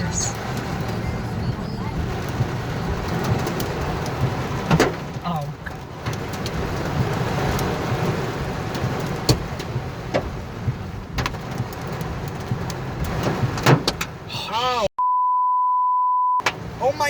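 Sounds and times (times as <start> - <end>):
hailstones knocking on car: 0.0 - 14.2
heavy rain on car roof: 0.0 - 14.9, 16.4 - 17.0.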